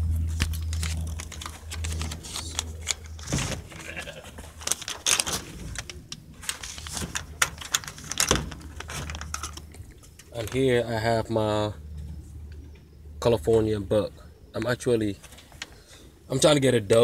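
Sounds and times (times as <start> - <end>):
low handling rumble: 0.0 - 17.0.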